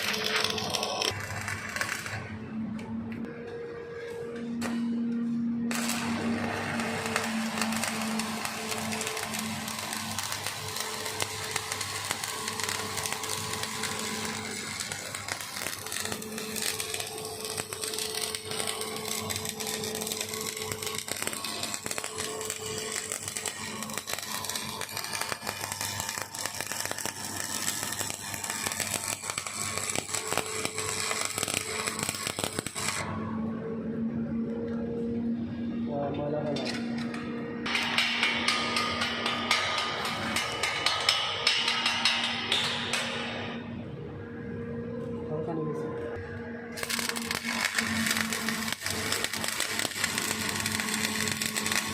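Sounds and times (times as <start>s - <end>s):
welding arc crackle: 0.0s - 2.4s, 5.7s - 33.1s, 37.0s - 43.6s, 46.7s - 51.9s
welding machine hum: 0.0s - 45.1s, 46.0s - 51.9s.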